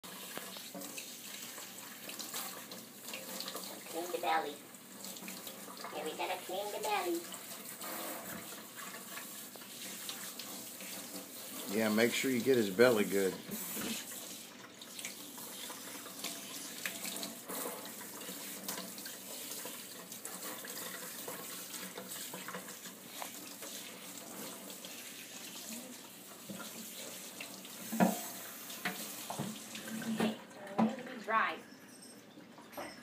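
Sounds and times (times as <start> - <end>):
tap water splashing into sink: 0.0 - 4.4, 5.0 - 31.1.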